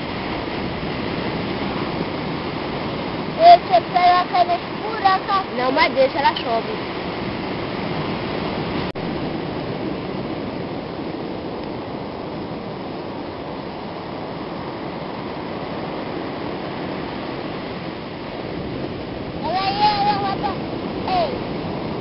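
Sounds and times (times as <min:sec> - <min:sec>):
ocean surf on beach: 0:00.0 - 0:22.0.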